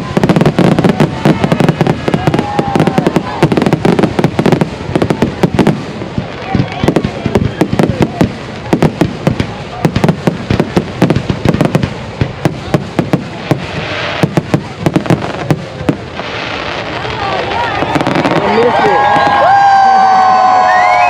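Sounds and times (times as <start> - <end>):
fireworks cracking and popping: 0.0 - 21.0
fireworks hissing: 0.0 - 21.0.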